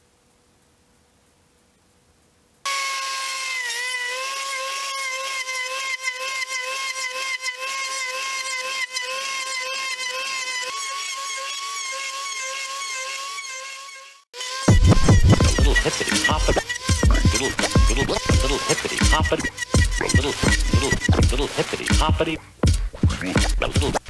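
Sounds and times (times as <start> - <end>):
router spindle whine: 2.7 - 22.4.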